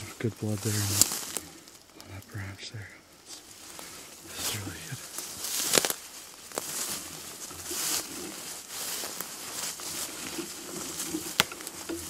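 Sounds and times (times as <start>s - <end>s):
footsteps in undergrowth: 0.0s - 12.0s
leafy brush rustling: 0.0s - 12.0s.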